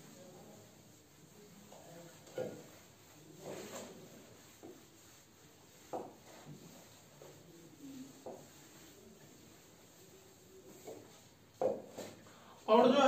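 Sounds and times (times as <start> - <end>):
cloth wiping whiteboard: 0.0 - 13.0.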